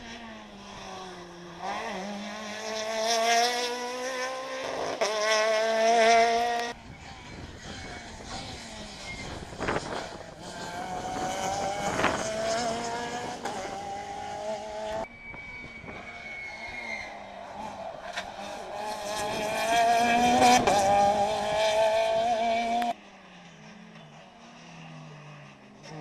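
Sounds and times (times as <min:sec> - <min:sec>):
rally car engines revving by: 0:00.0 - 0:26.0.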